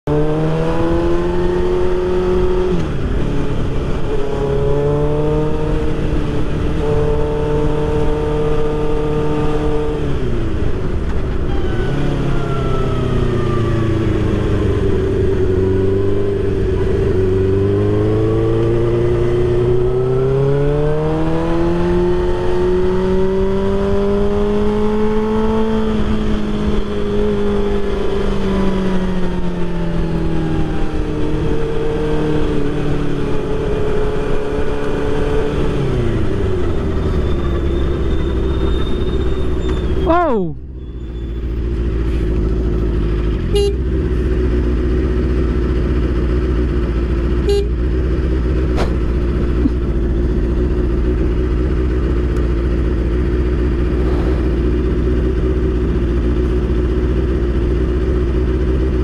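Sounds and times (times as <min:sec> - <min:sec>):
motorcycle engine running: 0:00.1 - 0:59.0.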